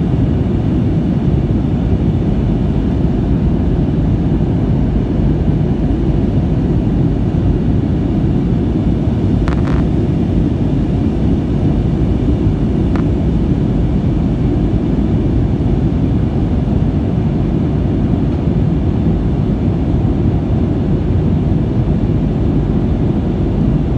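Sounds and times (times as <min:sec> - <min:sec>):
airplane cabin drone: 0:00.0 - 0:23.9.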